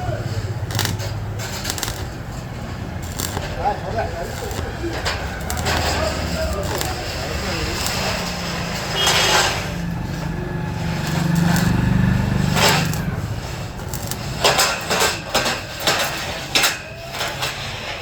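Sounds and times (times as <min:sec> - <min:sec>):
vehicle engine droning: 0:00.0 - 0:17.3.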